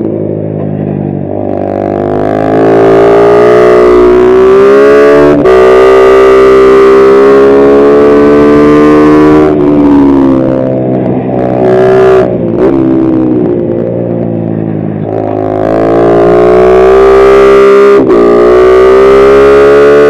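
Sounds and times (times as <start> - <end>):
motorbike engine accelerating: 0.0 - 20.0.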